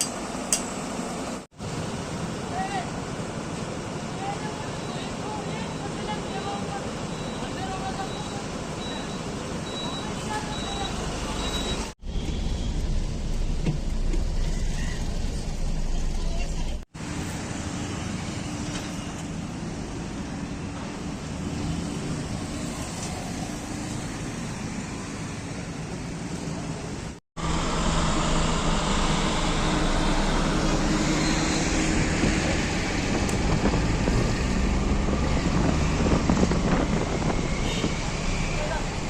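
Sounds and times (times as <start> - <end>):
road traffic hum: 0.0 - 39.0.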